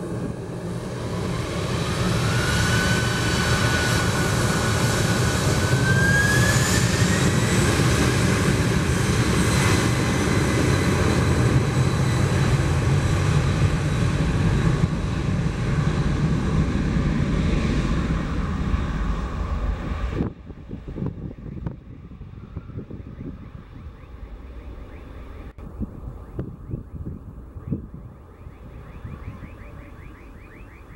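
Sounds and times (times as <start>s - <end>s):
jet engines at high power: 0.0s - 30.9s.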